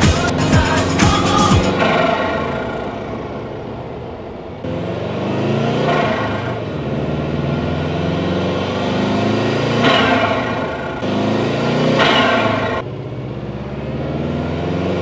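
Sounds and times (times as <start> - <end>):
turbocharged car engine revving: 0.0 - 15.0.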